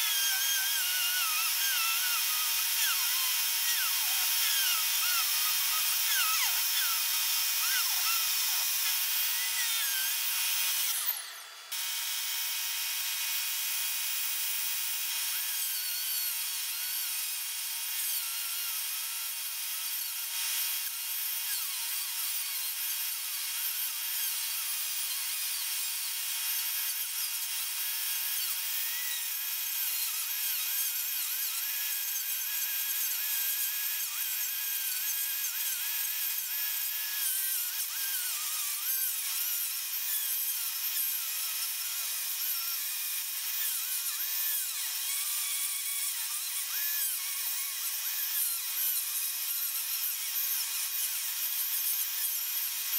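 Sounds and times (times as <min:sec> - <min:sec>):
rotary tool grinding plywood: 0:00.0 - 0:52.9.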